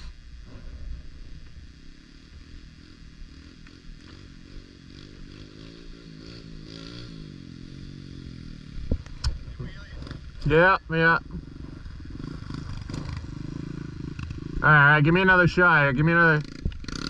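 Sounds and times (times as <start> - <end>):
small motorbike engine revving: 0.0 - 17.0.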